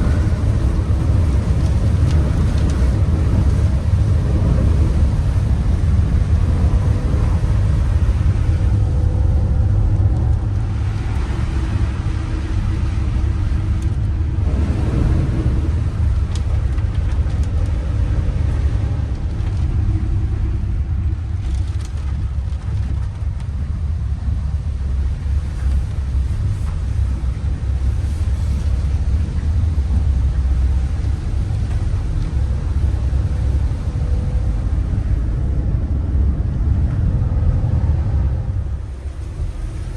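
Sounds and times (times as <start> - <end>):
vehicle rumbling while driving: 0.0 - 39.9.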